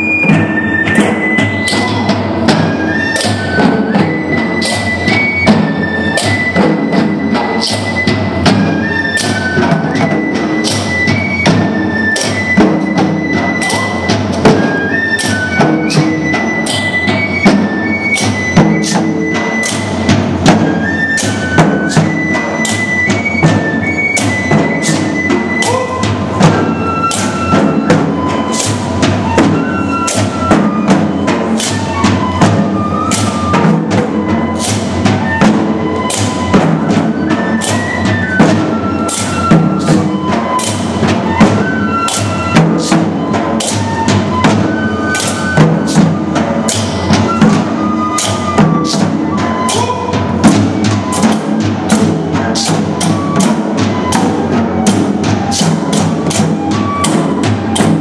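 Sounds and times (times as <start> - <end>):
drum strokes: 0.0 - 58.0
flute melody: 0.0 - 58.0
wooden clappers: 0.8 - 58.0.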